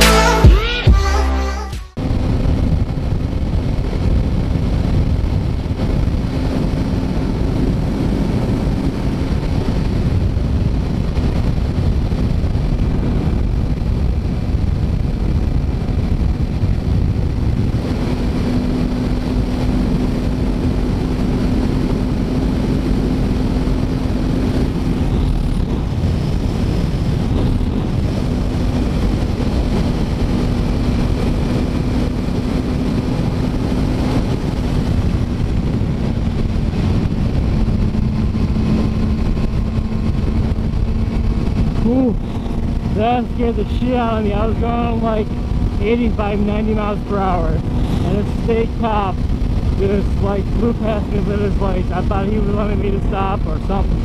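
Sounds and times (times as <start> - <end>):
motorcycle engine hum: 0.0 - 54.0
wind rushing over helmet: 1.8 - 54.0.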